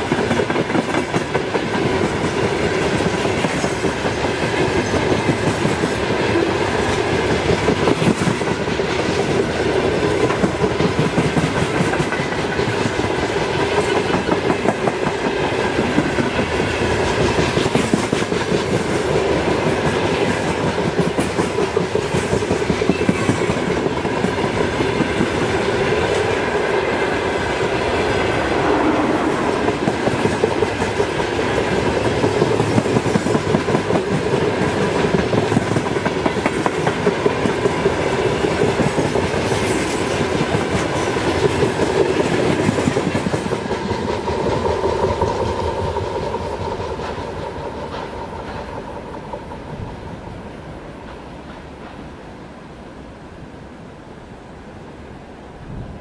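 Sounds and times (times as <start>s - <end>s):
train wheels clattering on rails: 0.0s - 52.4s.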